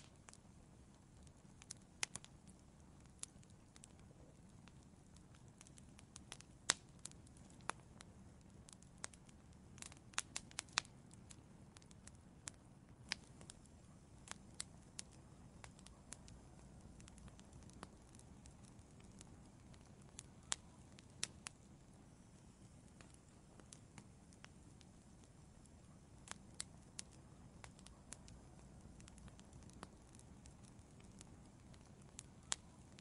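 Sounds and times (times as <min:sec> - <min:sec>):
faint low rumble: 0:00.0 - 0:33.0
wood fire crackling: 0:00.0 - 0:33.0.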